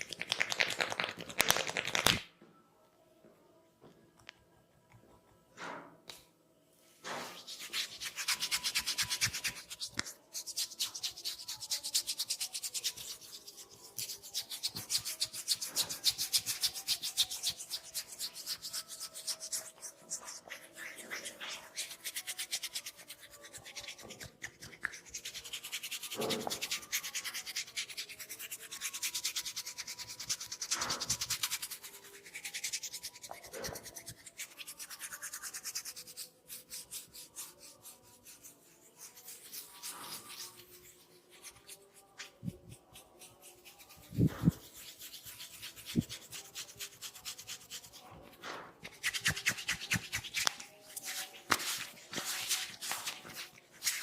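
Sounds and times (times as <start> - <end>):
hands rubbing through hair: 0.0 - 2.2, 7.1 - 27.3, 30.8 - 48.0, 48.8 - 54.0.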